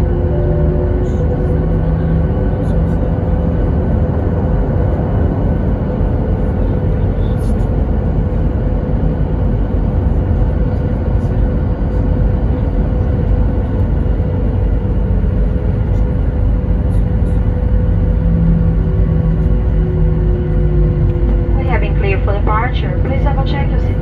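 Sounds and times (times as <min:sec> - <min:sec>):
low hum: 0:00.0 - 0:08.8, 0:11.2 - 0:24.0
airplane cabin engine rumble: 0:00.0 - 0:24.0.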